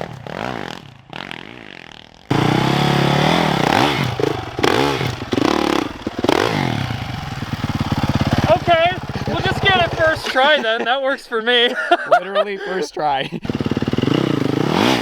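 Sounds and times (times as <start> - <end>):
motorcycle engine revving: 0.0 - 10.7, 13.4 - 15.0.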